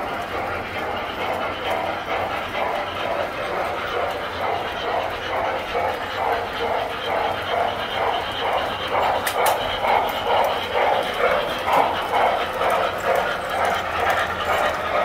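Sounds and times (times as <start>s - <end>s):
model train running rhythmically: 0.0s - 15.0s.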